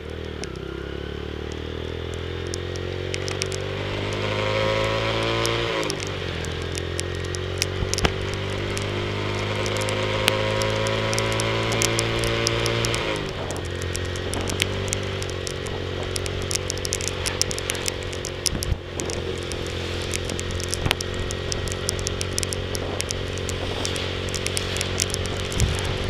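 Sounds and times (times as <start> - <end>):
motorcycle engine running: 0.0 - 26.0
raindrops ticking on camera: 0.0 - 26.0.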